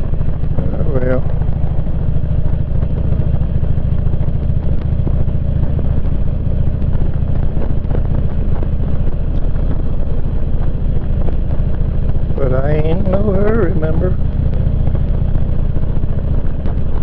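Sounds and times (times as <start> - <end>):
motorcycle engine running: 0.0 - 17.0
road noise: 0.0 - 17.0.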